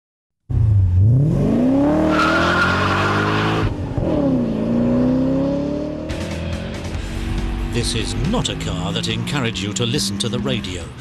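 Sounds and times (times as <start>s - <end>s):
car engine revving hard: 0.8s - 10.2s.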